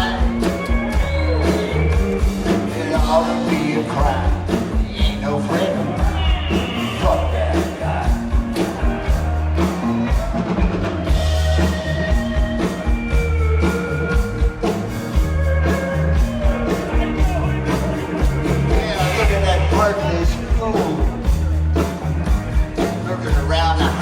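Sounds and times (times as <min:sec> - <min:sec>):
bass guitar: 0:00.0 - 0:24.0
drum kit beat: 0:00.0 - 0:24.0
electric guitar: 0:00.0 - 0:24.0.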